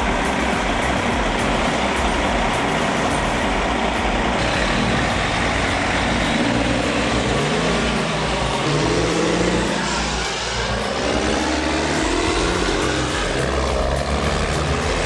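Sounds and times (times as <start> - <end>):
dense mechanical noise: 0.0 - 15.0
diesel engine running: 0.0 - 15.0.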